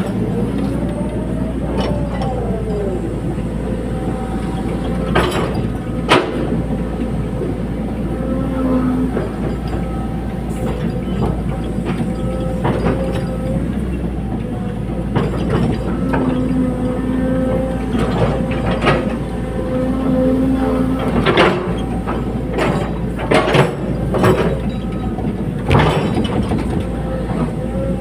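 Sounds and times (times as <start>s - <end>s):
metallic clanks and squeals: 0.0s - 7.2s, 8.0s - 28.0s
tracked excavator running: 0.0s - 28.0s.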